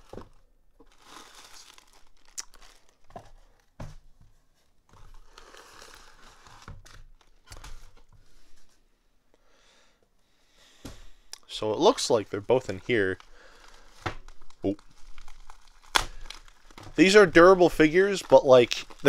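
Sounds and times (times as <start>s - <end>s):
plastic packaging crinkling: 0.0s - 3.8s, 4.5s - 8.7s, 11.4s - 19.0s.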